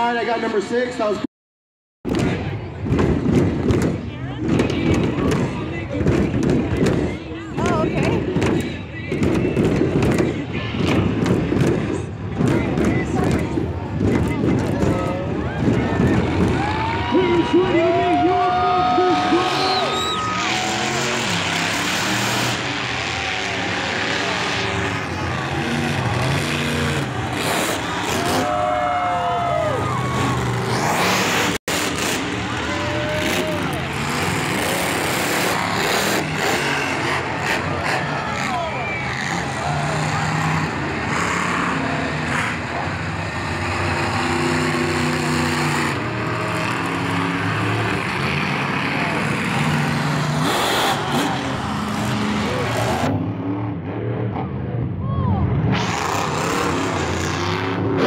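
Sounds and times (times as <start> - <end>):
monster truck engines running: 2.1 - 58.0.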